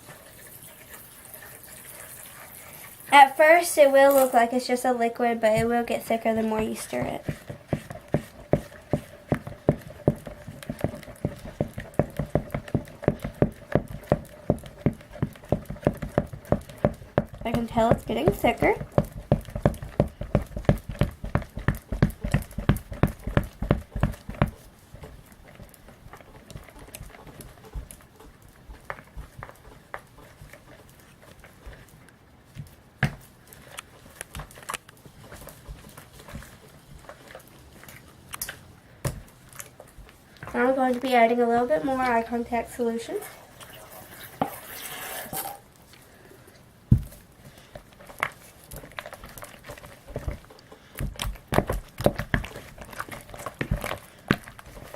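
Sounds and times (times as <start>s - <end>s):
slime being stirred in a bowl: 0.0s - 46.2s, 47.0s - 54.9s.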